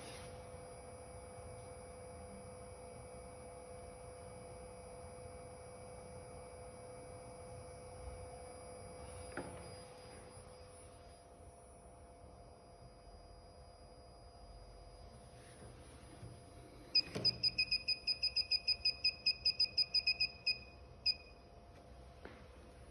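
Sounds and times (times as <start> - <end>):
thin high whine: 0.0 - 21.6
faint electronic hum: 0.0 - 22.9.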